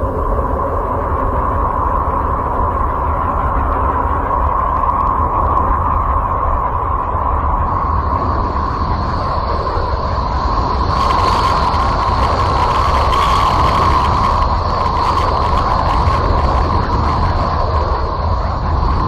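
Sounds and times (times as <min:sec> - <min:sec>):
rumbling drone with hum: 0:00.0 - 0:19.0.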